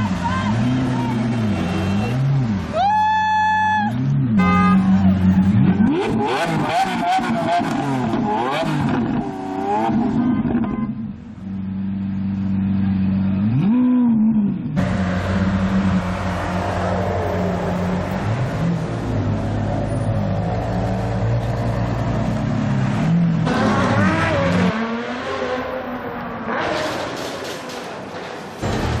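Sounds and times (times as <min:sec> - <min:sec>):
car engines revving: 0:00.0 - 0:02.8, 0:03.9 - 0:29.0.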